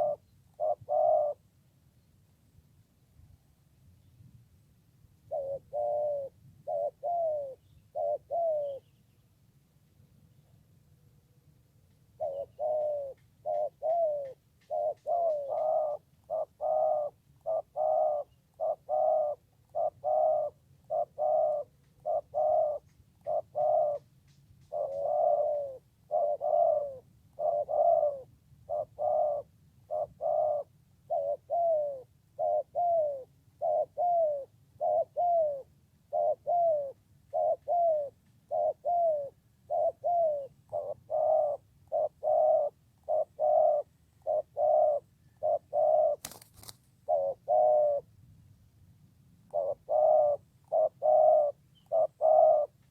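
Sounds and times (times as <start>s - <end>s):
dove cooing: 0.0s - 1.5s, 5.2s - 9.0s, 12.1s - 48.1s, 49.4s - 52.9s.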